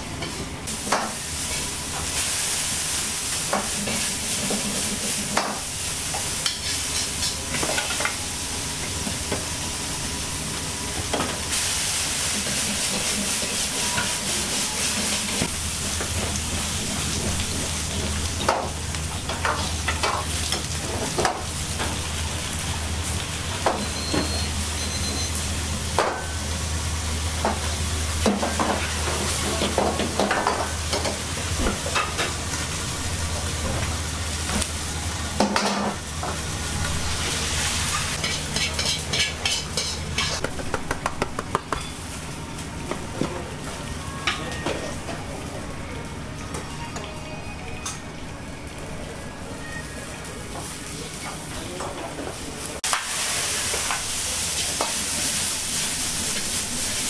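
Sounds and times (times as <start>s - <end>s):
food sizzling in a wok: 0.2s - 46.3s, 48.8s - 57.0s.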